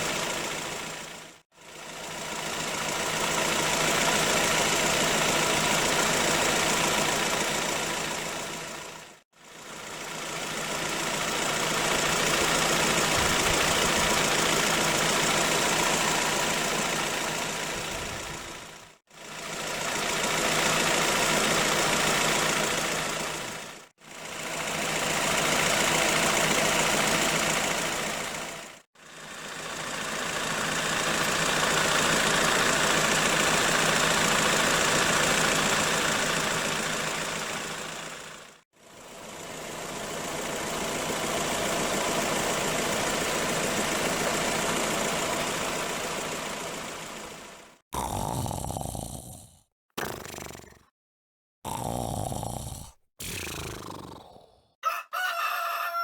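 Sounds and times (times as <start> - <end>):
car engine and road noise: 0.0 - 47.8.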